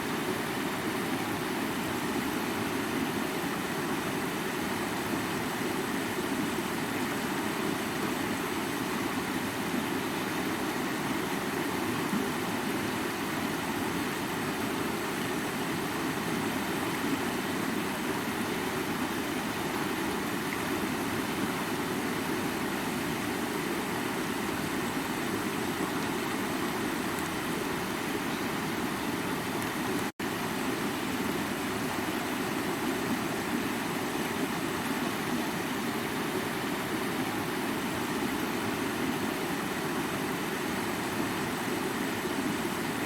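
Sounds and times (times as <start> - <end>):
creek water flowing over rocks: 0.0 - 43.0.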